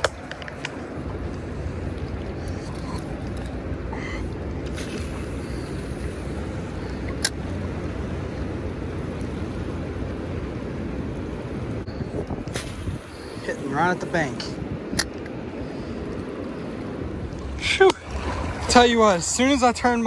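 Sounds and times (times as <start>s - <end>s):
river current rumbling: 0.0s - 20.0s.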